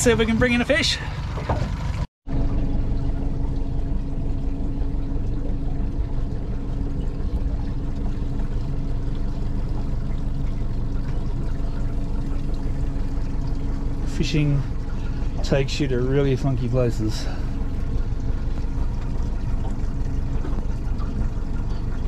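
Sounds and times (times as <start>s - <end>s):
outboard motor running: 0.0s - 22.0s
water splashing along hull: 0.0s - 22.0s.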